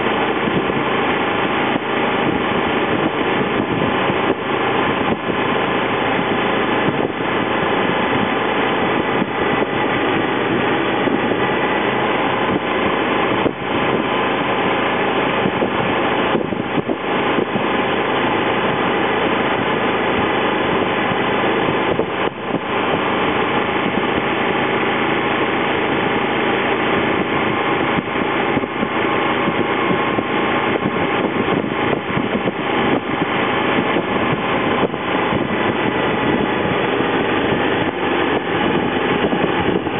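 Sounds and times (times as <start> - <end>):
road noise rushing: 0.0 - 39.9.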